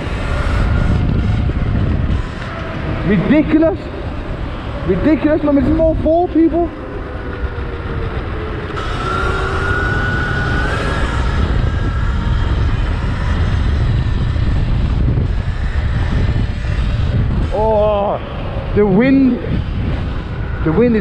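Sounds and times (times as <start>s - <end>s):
electric motor whine: 0.0s - 21.0s
wind buffeting microphone: 0.0s - 21.0s.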